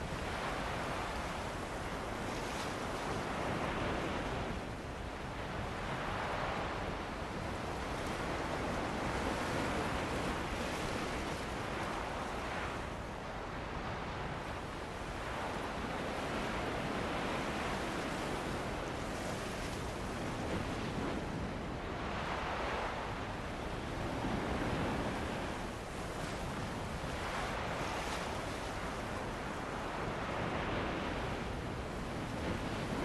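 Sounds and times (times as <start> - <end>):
ocean surf washing ashore: 0.0 - 33.0
steady wind: 0.0 - 33.0.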